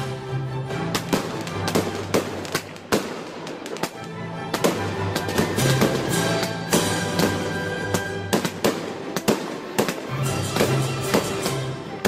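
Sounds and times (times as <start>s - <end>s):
fireworks bursting with sharp bangs: 0.8s - 12.0s.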